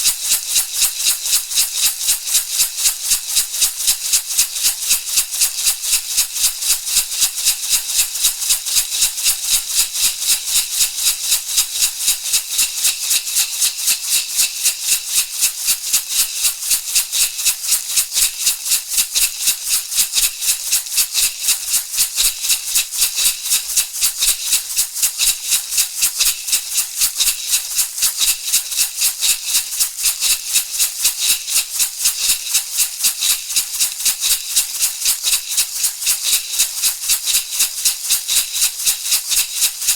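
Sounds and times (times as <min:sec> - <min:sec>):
rattle shaken in fast beat: 0:00.0 - 0:39.9.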